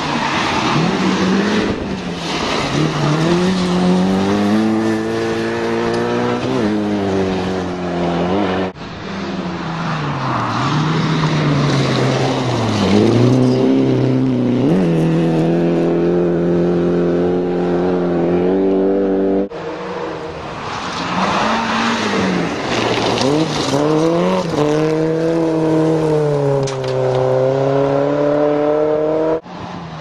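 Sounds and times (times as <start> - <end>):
rally car engine revving: 0.0 - 29.4.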